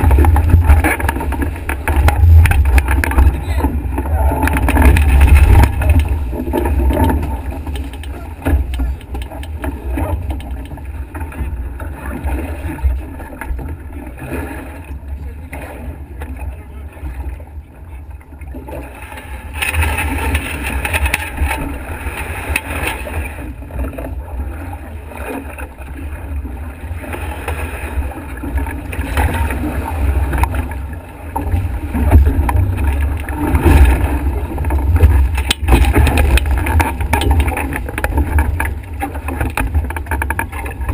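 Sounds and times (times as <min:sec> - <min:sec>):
water rushing past hulls: 0:00.0 - 0:40.9.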